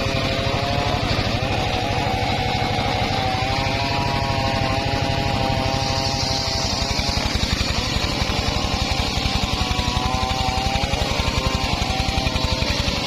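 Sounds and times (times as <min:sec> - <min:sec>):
circular saw engine pulsing: 0:00.0 - 0:13.0.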